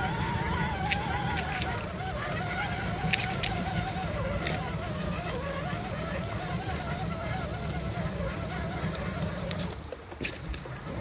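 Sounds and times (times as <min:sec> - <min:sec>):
electric motor and gear whine: 0:00.0 - 0:11.0
stones clicking under tyres: 0:00.0 - 0:11.0.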